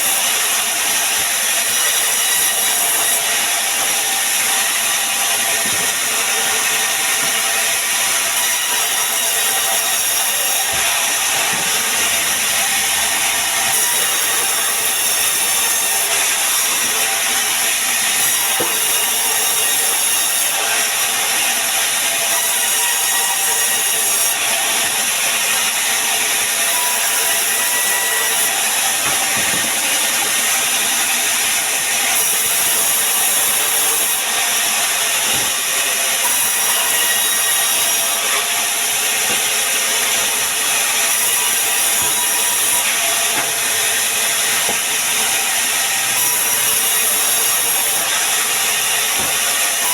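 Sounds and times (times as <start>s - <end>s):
power saw cutting wood: 0.0s - 49.9s.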